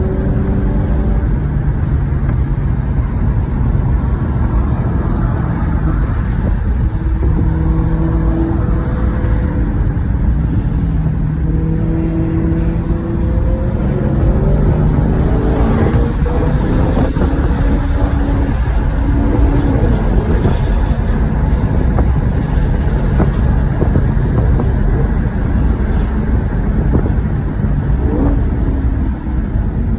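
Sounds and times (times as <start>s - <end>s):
car engine deep rumble: 0.0s - 29.9s.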